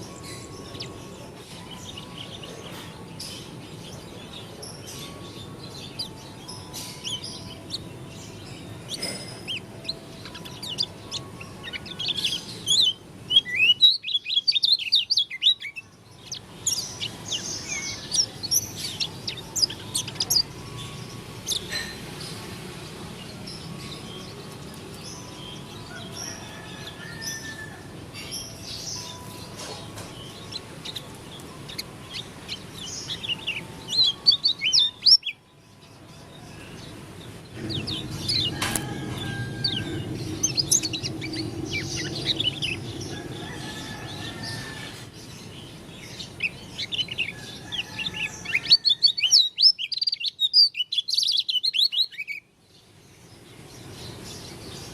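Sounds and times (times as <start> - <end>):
bird twittering song: 0.0 - 54.9.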